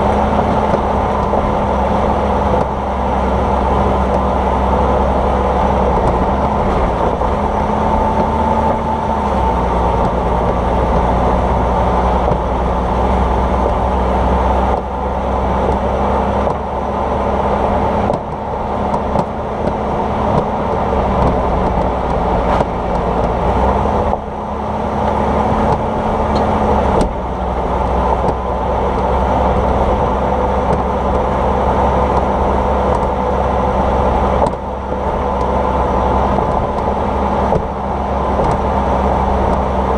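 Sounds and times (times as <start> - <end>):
car road noise: 0.0 - 39.9
suspension clunks: 0.0 - 39.9.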